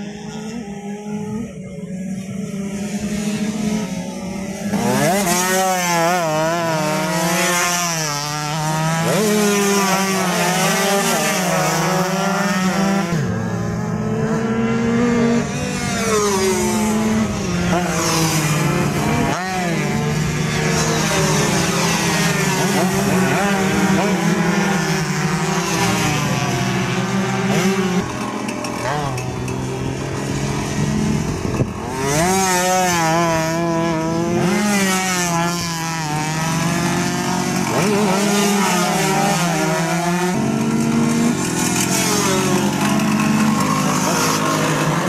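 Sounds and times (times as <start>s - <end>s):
motorcycle engines revving: 0.0s - 45.0s
steady engine drone: 0.0s - 45.0s.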